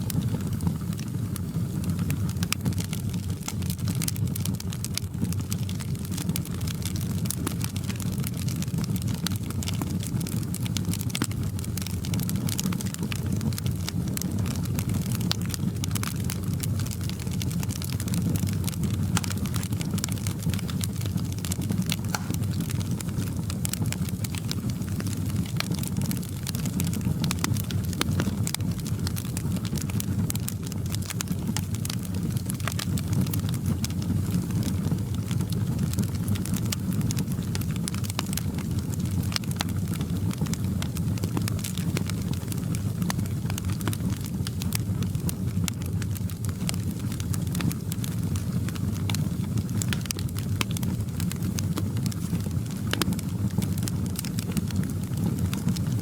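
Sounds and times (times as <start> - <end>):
fire low rumble: 0.0 - 56.0
fire pops and snaps: 0.0 - 56.0.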